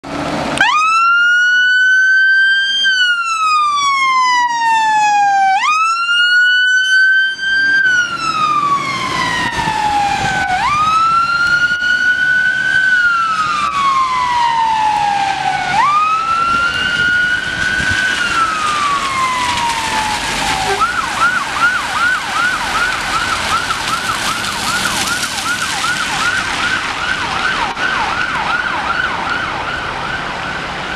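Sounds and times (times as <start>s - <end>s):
fire engine siren: 0.0s - 30.9s.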